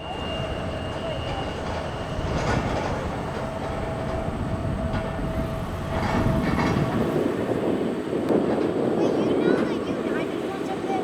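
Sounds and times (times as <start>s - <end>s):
jet engines rumbling with whine: 0.0s - 11.0s.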